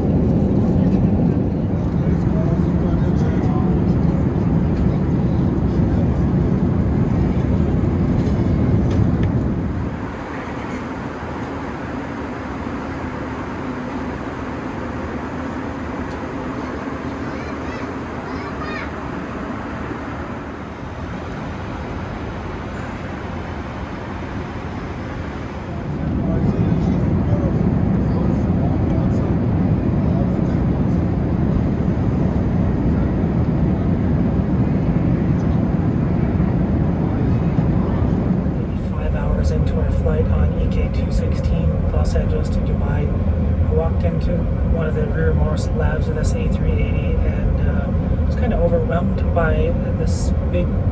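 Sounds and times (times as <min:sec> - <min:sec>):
airplane cabin noise: 0:00.0 - 0:50.9.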